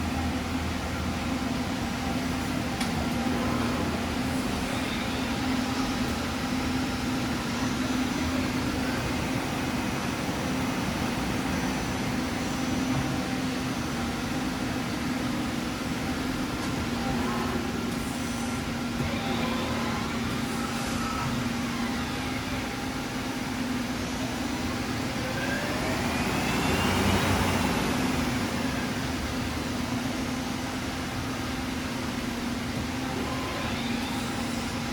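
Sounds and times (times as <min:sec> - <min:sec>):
machine whine: 0:00.0 - 0:34.9
machinery and fans humming: 0:00.0 - 0:34.9.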